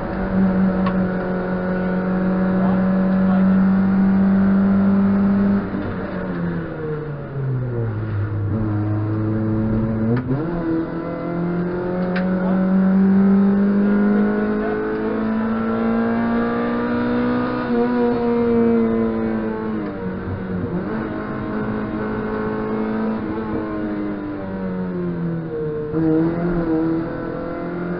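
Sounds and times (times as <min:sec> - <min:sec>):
race car engine revving: 0:00.0 - 0:27.9.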